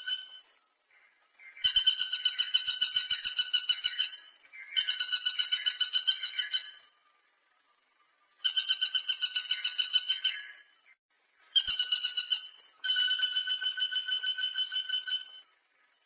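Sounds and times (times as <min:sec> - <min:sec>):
woodpecker calling: 0:00.0 - 0:07.0, 0:08.4 - 0:16.0.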